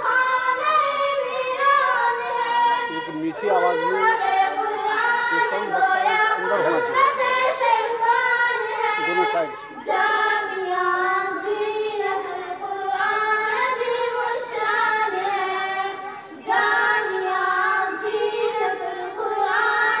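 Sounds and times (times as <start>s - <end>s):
young voices singing unaccompanied: 0.0s - 20.0s.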